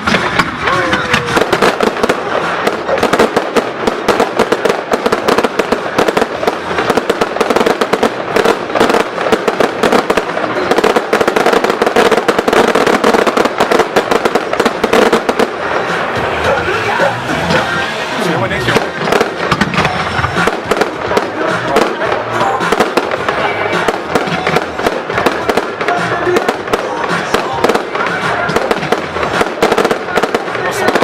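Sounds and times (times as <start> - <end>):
firework bangs: 0.0 - 31.0.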